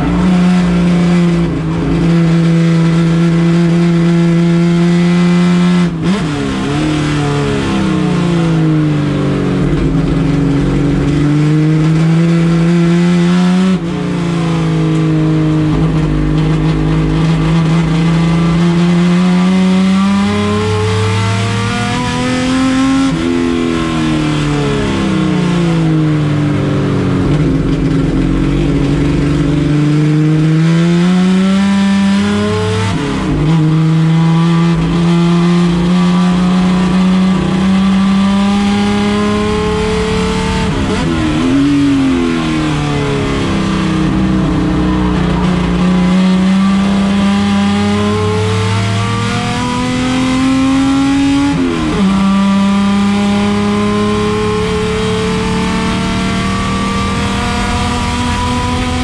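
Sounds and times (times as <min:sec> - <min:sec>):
race car engine revving high: 0:00.0 - 0:59.0.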